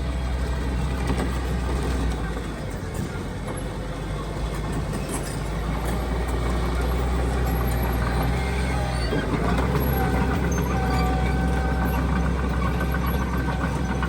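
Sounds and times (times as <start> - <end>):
heavy diesel engine rumbling: 0.0 - 14.0.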